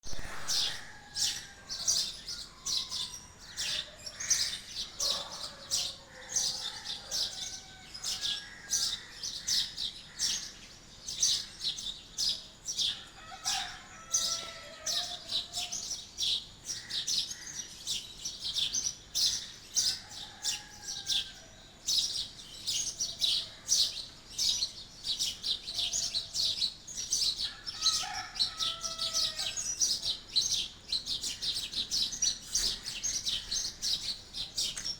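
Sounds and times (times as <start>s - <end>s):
flock of small birds chirping: 0.0s - 34.9s.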